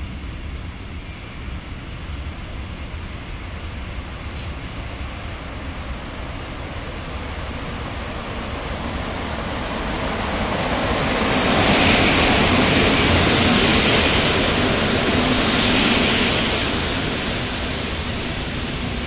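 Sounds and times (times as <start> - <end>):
train wheels rushing past: 0.2 - 19.0.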